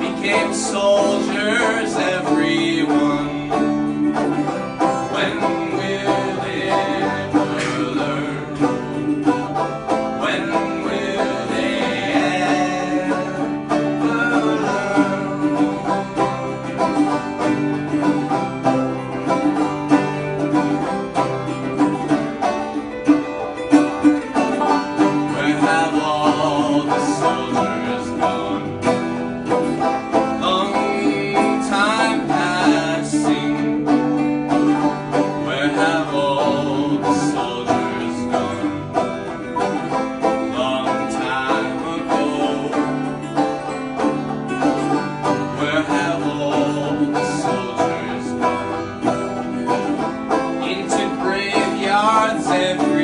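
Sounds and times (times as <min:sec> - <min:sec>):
banjo picking: 0:00.0 - 0:53.0
strummed guitar chords: 0:00.0 - 0:53.0.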